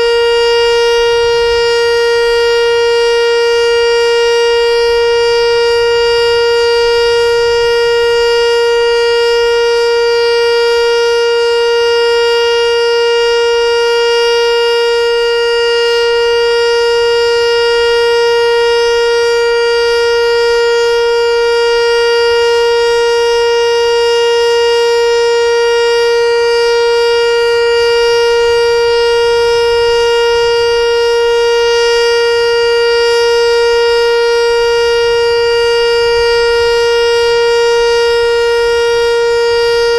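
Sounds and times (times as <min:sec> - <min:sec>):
electronic warning siren steady tone: 0:00.0 - 0:39.9.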